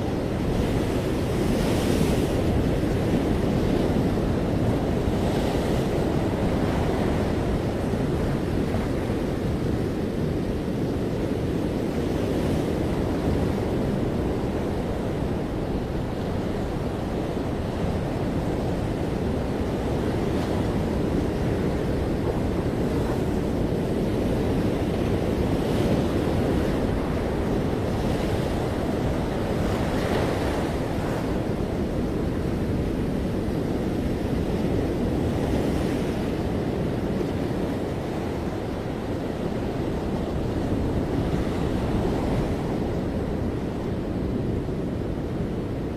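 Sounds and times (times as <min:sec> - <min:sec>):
ocean waves breaking: 0:00.0 - 0:45.9
wind noise on microphone: 0:00.0 - 0:45.9.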